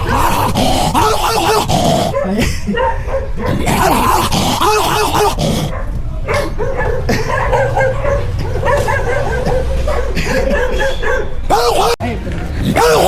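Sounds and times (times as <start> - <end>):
dog vocalizing: 0.0 - 12.0, 12.6 - 13.0.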